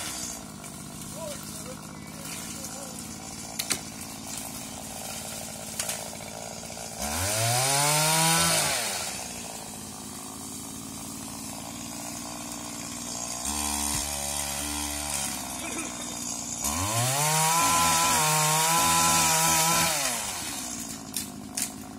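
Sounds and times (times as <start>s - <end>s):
pole saw engine idling and revving: 0.0s - 21.9s.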